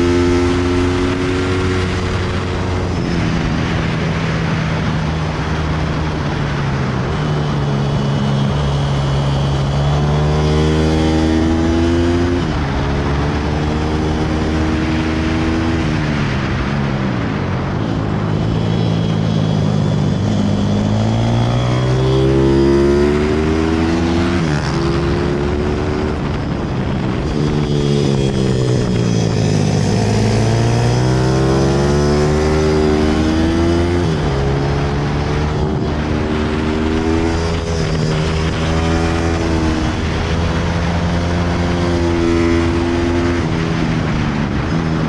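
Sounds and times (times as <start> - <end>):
motorcycle engine revving: 0.0 - 45.0
wind rush: 0.0 - 45.0.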